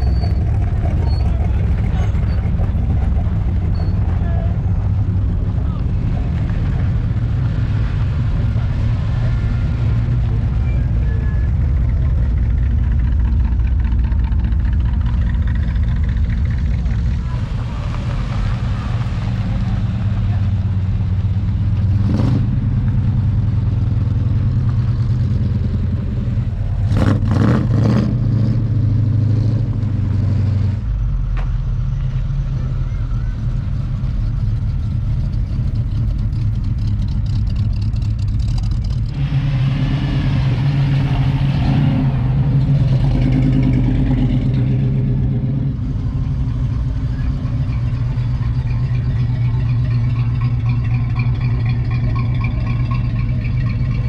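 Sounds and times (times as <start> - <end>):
engine throttle revs: 0.0 - 31.0, 32.5 - 54.0
car engines driving past: 0.0 - 54.0.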